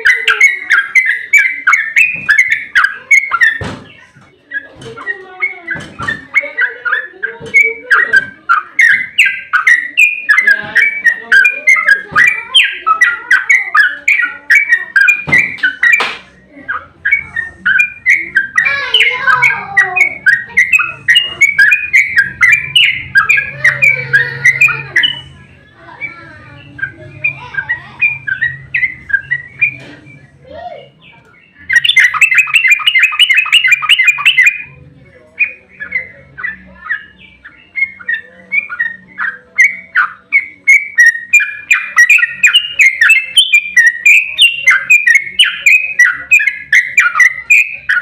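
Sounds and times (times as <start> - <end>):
bird singing chattering notes: 0.0 - 48.0.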